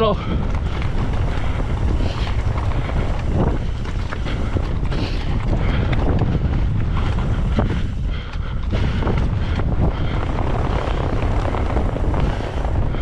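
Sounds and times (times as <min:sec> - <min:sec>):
bike rattling over rock: 0:00.0 - 0:13.0
strong wind buffeting microphone: 0:00.0 - 0:13.0.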